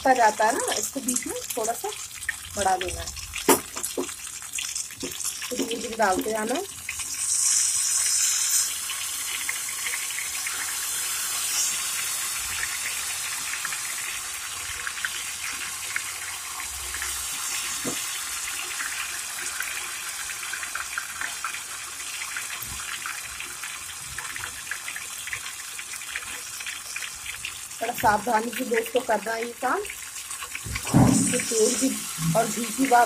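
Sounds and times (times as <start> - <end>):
ghee sizzling and crackling: 0.0 - 33.0.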